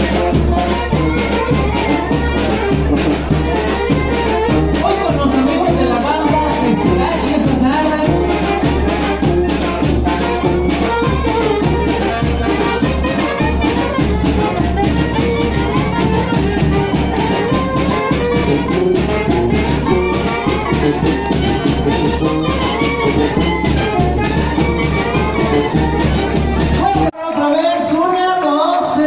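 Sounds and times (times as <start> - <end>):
sousaphone bass: 0.0 - 27.2
steady drum beat: 0.0 - 27.2
brass melody: 0.0 - 27.3.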